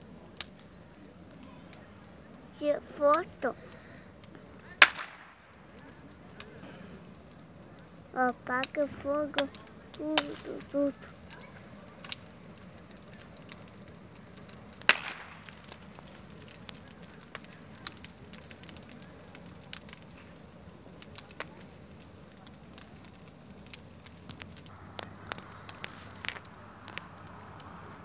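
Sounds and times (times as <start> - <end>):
bonfire crackling and popping: 0.0 - 28.0.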